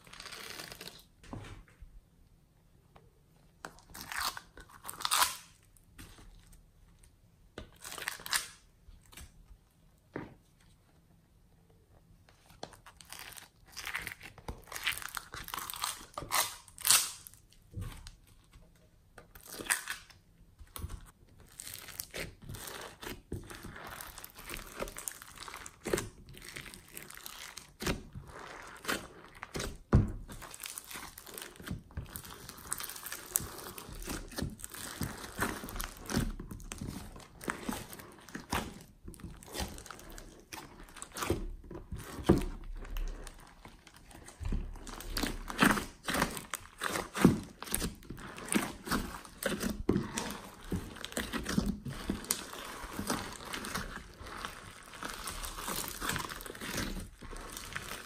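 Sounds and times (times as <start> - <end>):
slime squishing: 3.5 - 9.7, 11.9 - 58.0.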